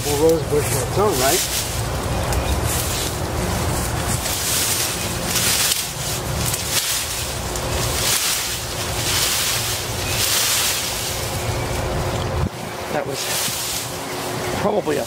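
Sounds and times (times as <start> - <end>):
leafy branch rustling and scraping: 0.0 - 15.0.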